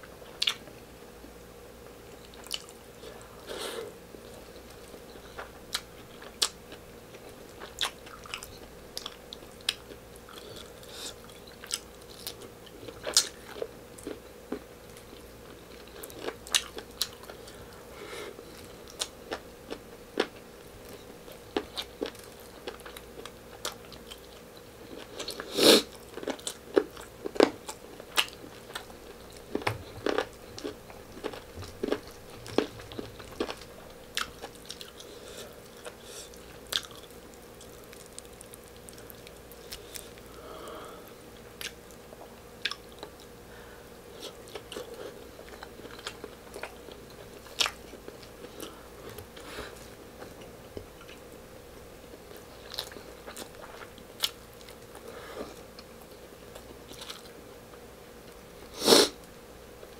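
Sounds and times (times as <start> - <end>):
man chewing food: 0.0 - 1.4, 2.1 - 58.5
faint steady hum: 0.0 - 59.9.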